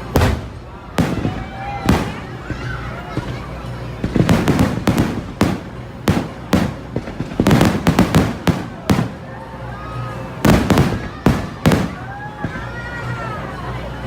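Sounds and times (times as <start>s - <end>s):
fireworks bursting with echoing bangs: 0.0s - 9.4s, 10.4s - 12.6s.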